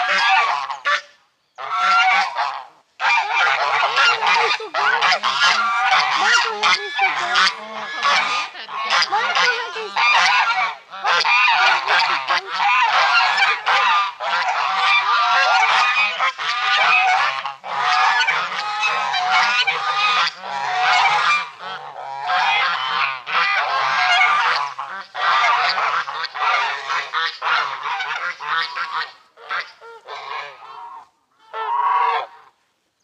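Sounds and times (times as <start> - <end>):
geese honking: 0.0 - 32.6.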